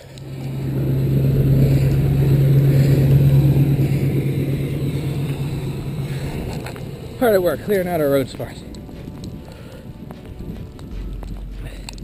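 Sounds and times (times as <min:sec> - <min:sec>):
snowplow truck engine drone: 0:00.0 - 0:12.0.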